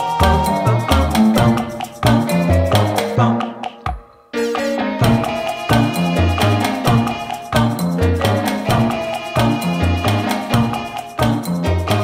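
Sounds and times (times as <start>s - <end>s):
bass line: 0.0s - 3.6s, 5.0s - 12.0s
percussive beat: 0.0s - 12.0s.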